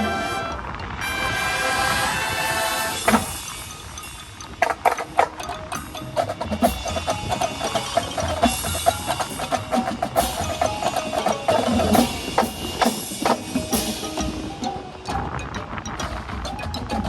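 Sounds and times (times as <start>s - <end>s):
percussion ensemble playing: 0.0s - 17.0s.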